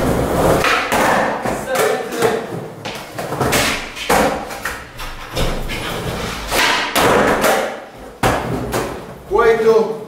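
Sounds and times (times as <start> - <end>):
skateboard clacks and thuds on concrete: 0.0 - 9.2.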